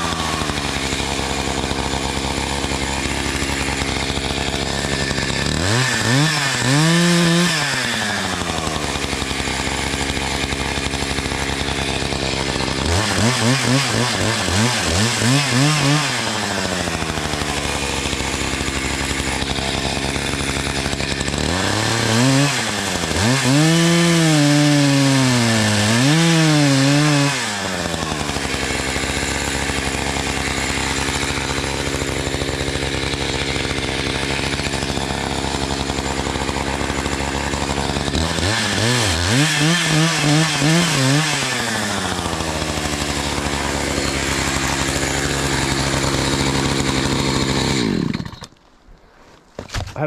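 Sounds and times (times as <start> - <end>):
chainsaw revving and idling: 0.0 - 48.7.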